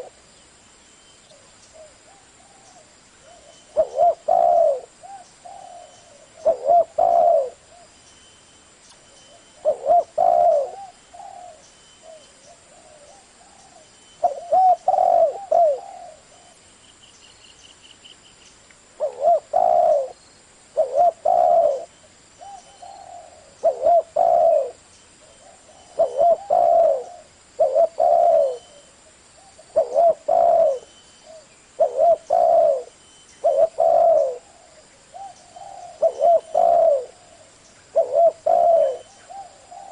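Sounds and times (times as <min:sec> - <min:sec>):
dove cooing: 0:01.3 - 0:07.9, 0:09.3 - 0:16.6, 0:19.0 - 0:39.9.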